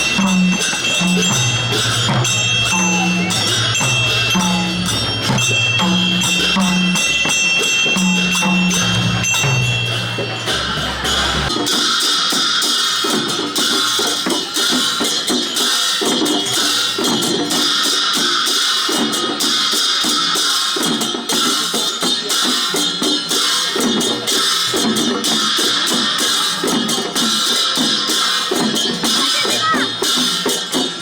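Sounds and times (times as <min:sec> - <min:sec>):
cymbals clashing: 0:00.0 - 0:31.0
steady drum beat: 0:00.0 - 0:31.0.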